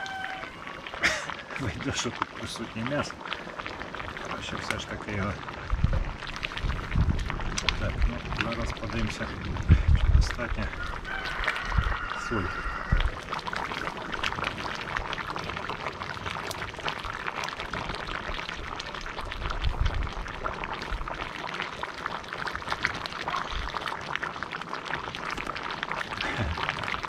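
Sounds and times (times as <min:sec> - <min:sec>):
stew bubbling: 0:00.0 - 0:27.0
wood fire crackling: 0:00.0 - 0:27.0.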